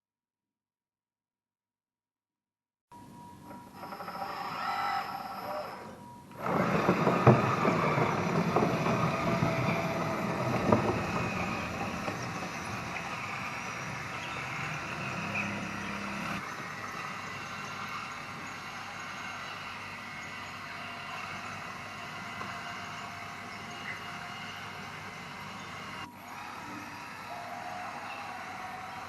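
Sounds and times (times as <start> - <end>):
model machine mechanical whir: 3.5 - 29.0.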